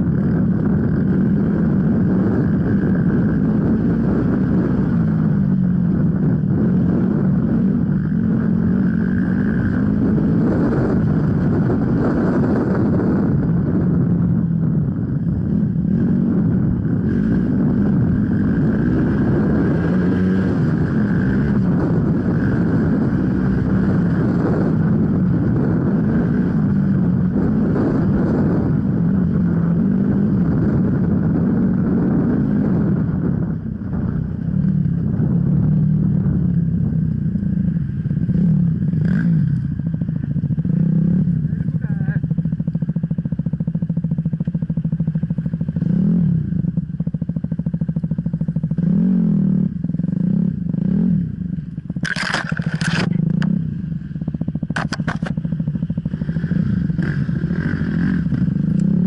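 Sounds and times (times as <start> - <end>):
off-road motorcycle engine revving: 0.0 - 59.0.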